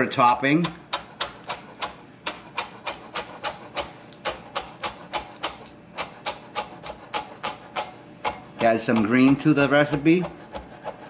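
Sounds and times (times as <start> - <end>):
knife chopping on wooden board: 0.0 - 11.0.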